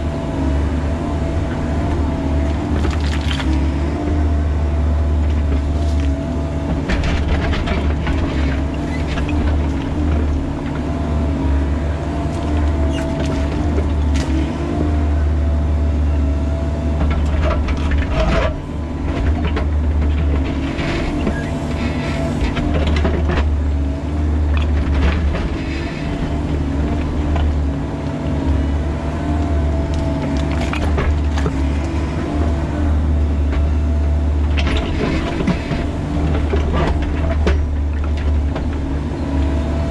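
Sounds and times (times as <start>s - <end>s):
excavator diesel engine whine: 0.0s - 39.9s.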